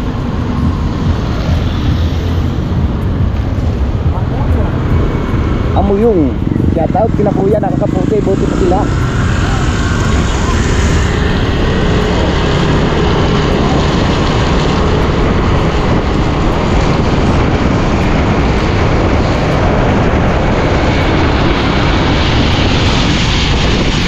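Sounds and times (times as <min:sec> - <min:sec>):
motorcycle engine running: 0:00.0 - 0:24.0
wet road noise: 0:00.0 - 0:24.0
wind rush: 0:00.0 - 0:24.0.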